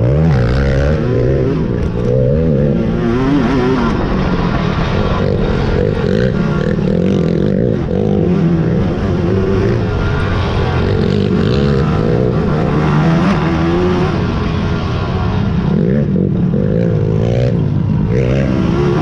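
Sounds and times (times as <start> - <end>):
quad engines running hard: 0.0 - 19.0.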